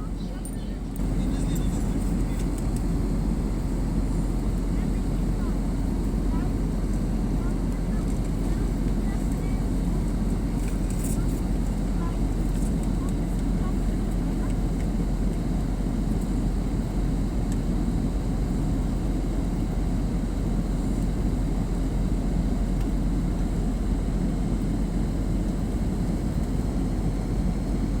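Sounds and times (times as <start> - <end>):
airliner cabin roar: 0.0 - 28.0.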